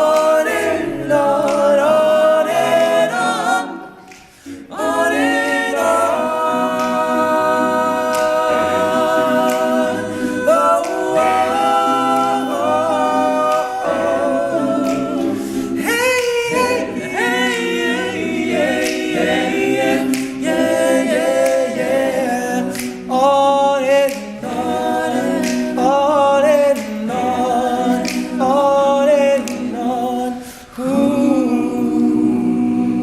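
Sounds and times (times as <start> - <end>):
male a cappella group singing: 0.0 - 33.0.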